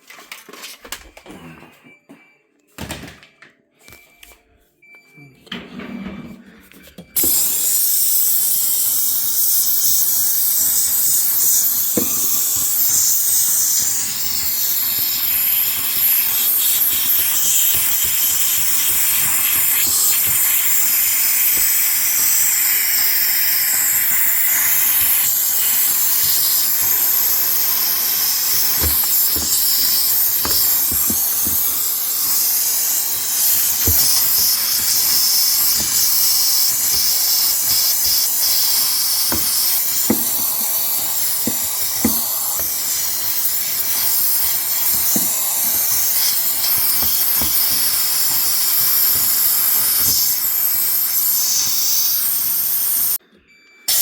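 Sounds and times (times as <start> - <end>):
steam cleaner hissing: 7.2 - 53.2.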